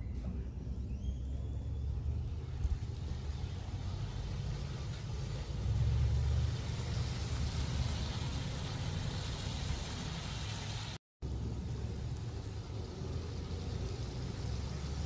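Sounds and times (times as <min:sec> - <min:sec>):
vehicle engines idling: 0:00.0 - 0:10.4, 0:11.2 - 0:15.0.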